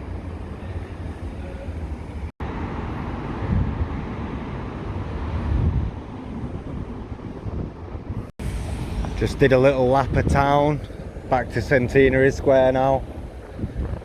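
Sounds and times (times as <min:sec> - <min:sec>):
city street traffic: 0:00.0 - 0:14.0
wind buffeting microphone: 0:00.0 - 0:14.0.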